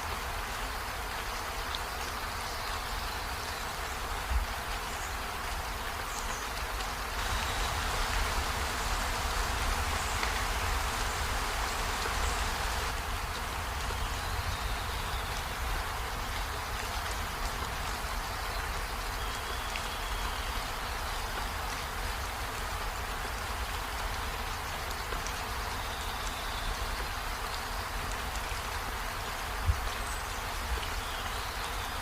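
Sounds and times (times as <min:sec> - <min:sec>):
rain on trees and window: 0:00.0 - 0:32.0.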